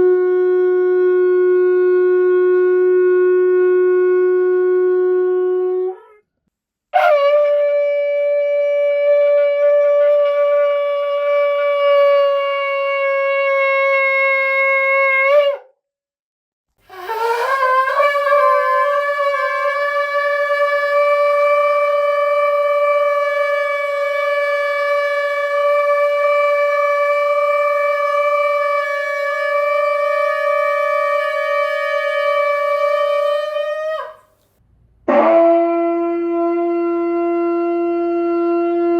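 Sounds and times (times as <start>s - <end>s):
shofar blasts: 0.0s - 6.1s, 7.0s - 15.6s, 16.9s - 34.3s, 35.1s - 38.9s.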